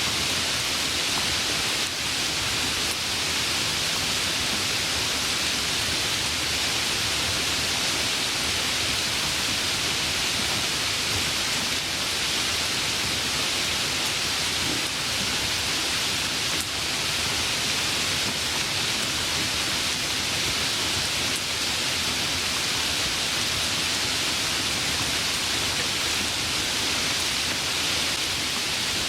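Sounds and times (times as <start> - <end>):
rain hiss: 0.0 - 29.0.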